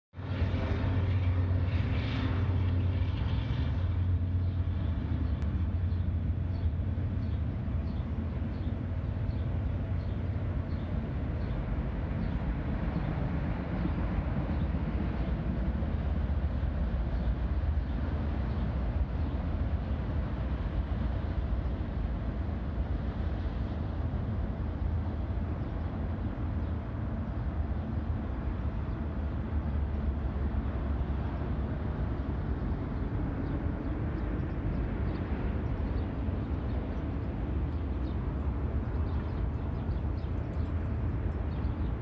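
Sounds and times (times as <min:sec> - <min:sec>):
distant freight train rumbling: 0:00.2 - 0:42.0.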